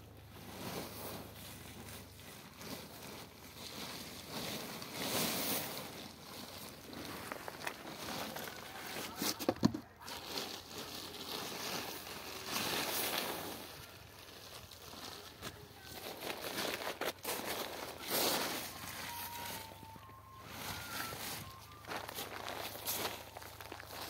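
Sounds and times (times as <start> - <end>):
plastic tarpaulin rustling: 0.0 - 24.0.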